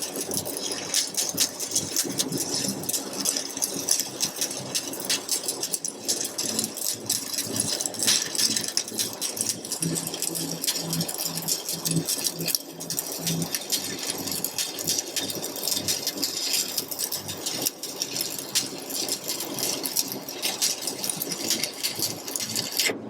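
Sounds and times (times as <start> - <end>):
welding arc crackling: 0.0 - 23.0.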